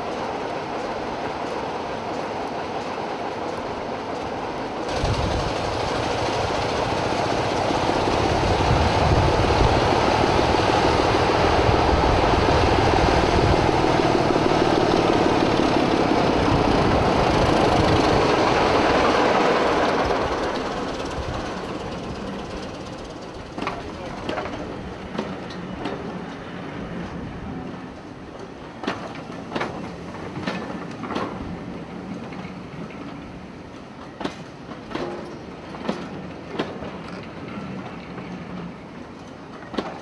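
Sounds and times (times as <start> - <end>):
diesel locomotive engine rumble: 0.0 - 40.0
train coaches rolling by: 0.0 - 40.0.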